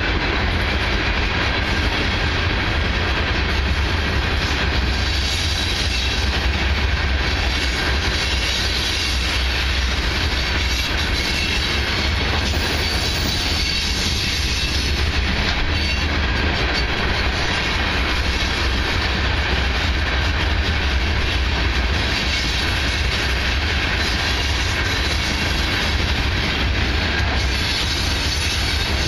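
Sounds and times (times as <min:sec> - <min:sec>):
freight train wheels rumbling on rails: 0:00.0 - 0:29.0.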